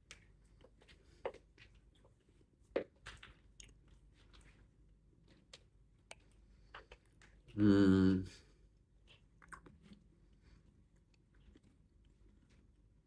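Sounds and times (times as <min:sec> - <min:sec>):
person chewing food: 0:00.0 - 0:07.6, 0:08.5 - 0:13.0.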